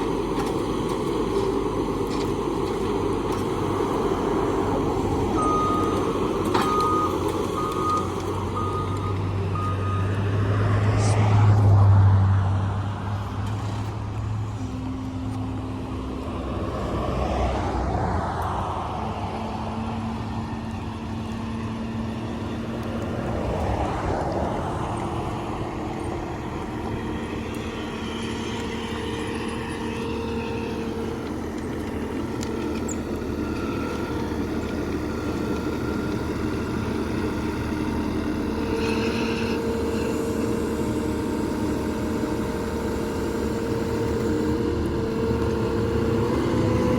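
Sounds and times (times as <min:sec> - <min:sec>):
heavy machine engine running: 0:00.0 - 0:46.9.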